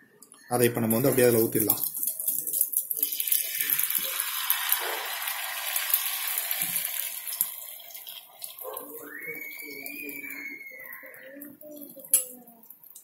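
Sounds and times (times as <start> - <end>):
egg sizzling on hot pan: 0.8 - 13.0.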